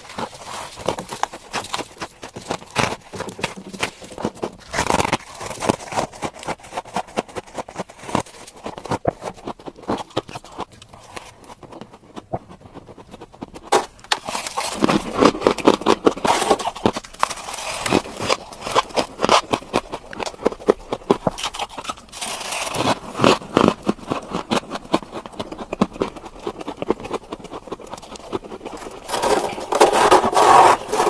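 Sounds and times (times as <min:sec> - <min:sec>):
frost being bitten and chewed: 0:00.0 - 0:31.0.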